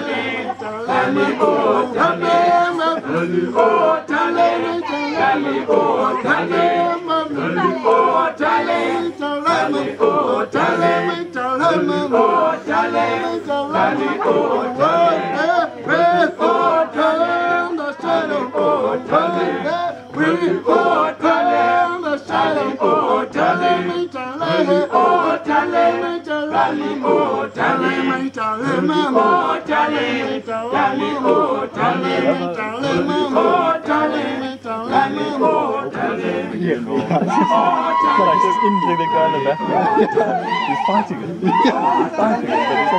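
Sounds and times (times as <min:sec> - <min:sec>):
choir singing a cappella: 0:00.0 - 0:38.7, 0:39.7 - 0:42.9.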